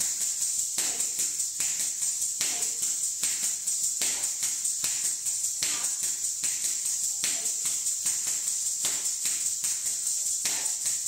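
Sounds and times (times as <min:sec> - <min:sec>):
ankle bells jingling: 0:00.0 - 0:11.0
bare feet stamping on floor: 0:00.8 - 0:11.0.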